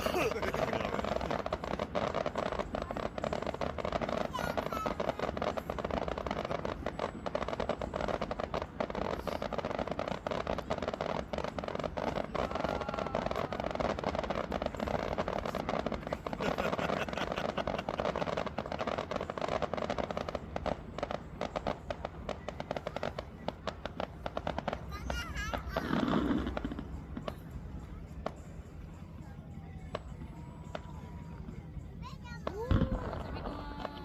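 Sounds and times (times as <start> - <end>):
fireworks crackling: 0.0 - 34.0.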